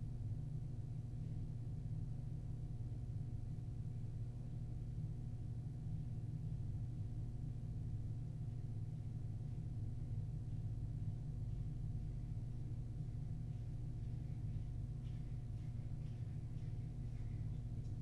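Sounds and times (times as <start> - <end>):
faint whine: 0.0 - 18.0
low hum: 0.0 - 18.0.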